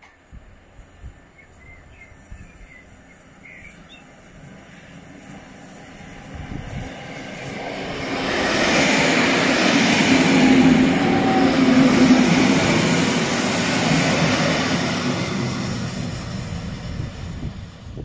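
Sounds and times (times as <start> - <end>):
train low hum: 0.0 - 18.0
train passing on rails: 0.0 - 18.0.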